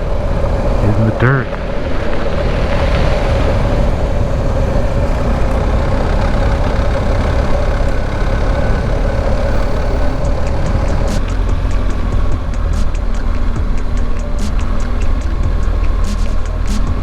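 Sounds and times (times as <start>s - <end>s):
motorcycle engine running: 0.0s - 17.0s
tyre noise on dirt road: 0.0s - 17.0s
wind: 0.0s - 17.0s.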